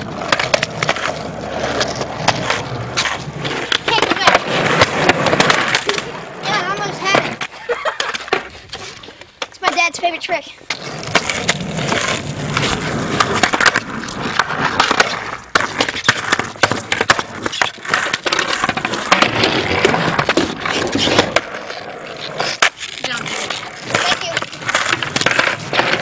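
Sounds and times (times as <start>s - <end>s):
skateboard clacking on concrete: 0.0s - 26.0s
skateboard wheels rolling on concrete: 0.0s - 26.0s.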